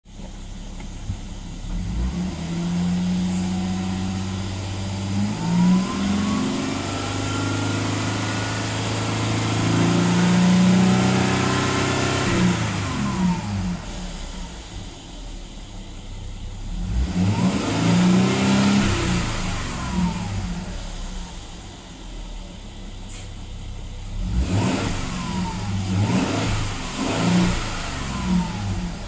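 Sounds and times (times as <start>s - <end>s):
car engine revving: 0.3s - 15.8s, 16.5s - 22.9s, 23.7s - 29.0s.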